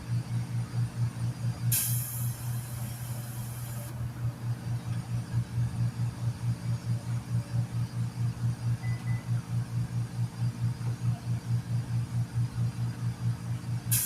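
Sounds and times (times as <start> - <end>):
air compressor running: 0.0 - 8.8, 9.6 - 14.0.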